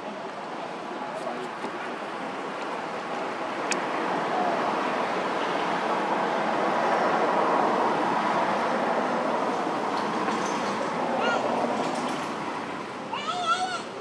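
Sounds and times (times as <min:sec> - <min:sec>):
steady rushing outdoor noise: 0:00.0 - 0:14.0.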